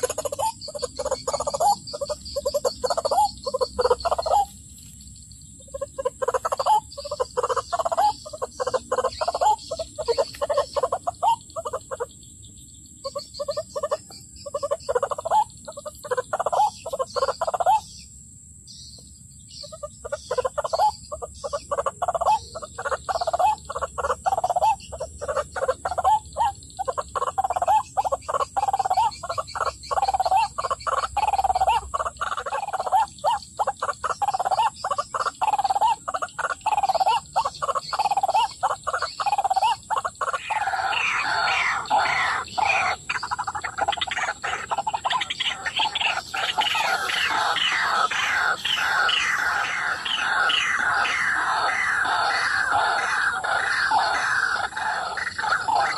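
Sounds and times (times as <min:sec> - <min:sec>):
waterhen croaking calls: 0:00.0 - 0:04.6, 0:05.6 - 0:12.2, 0:13.0 - 0:18.0, 0:19.6 - 0:55.9.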